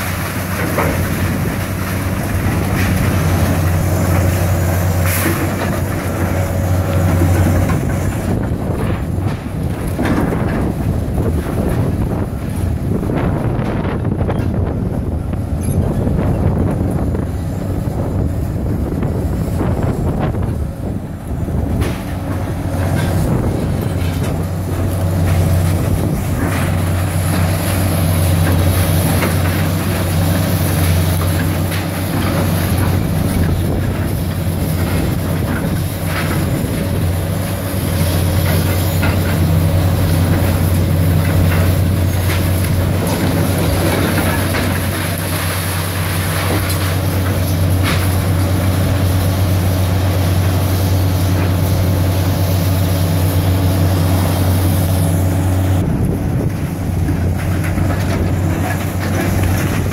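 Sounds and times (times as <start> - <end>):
excavator diesel engines running: 0.0 - 59.9.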